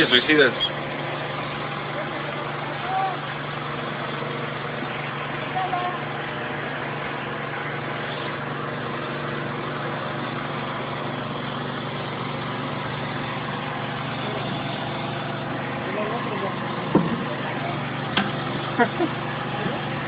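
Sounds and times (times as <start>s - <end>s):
mechanical drone with hum and hiss: 0.0s - 20.0s.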